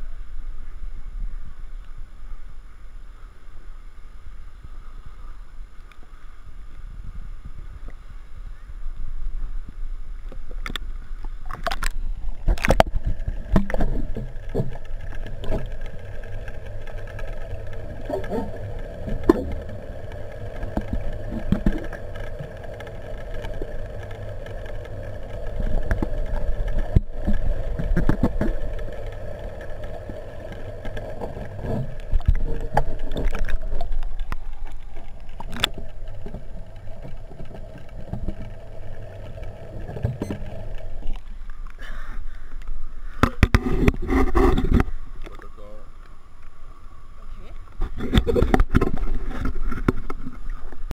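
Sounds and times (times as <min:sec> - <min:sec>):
muffled underwater rumble: 0:00.0 - 0:50.9
steady hum: 0:00.0 - 0:50.9.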